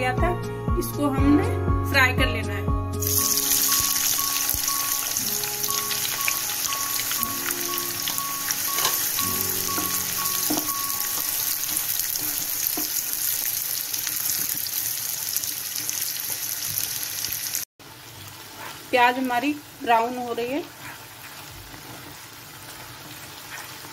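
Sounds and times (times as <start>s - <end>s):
onions sizzling in hot oil: 3.0s - 23.9s.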